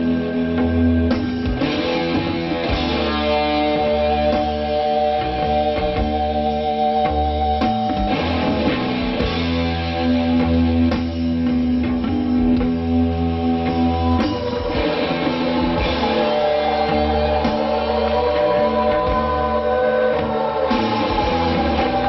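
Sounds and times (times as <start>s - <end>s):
rock music with electric guitar: 0.0s - 22.0s.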